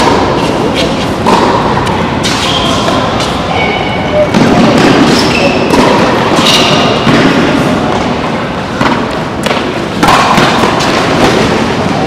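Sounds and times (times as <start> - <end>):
racket hitting tennis ball: 0.0 - 3.5, 4.3 - 12.0
loud steady background noise: 0.0 - 12.0.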